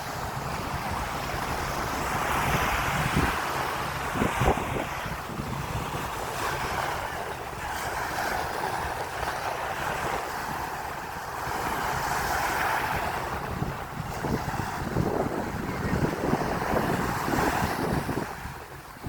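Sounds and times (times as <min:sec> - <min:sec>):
sea surf washing in: 0:00.0 - 0:19.0
wind buffeting microphone: 0:00.0 - 0:19.0.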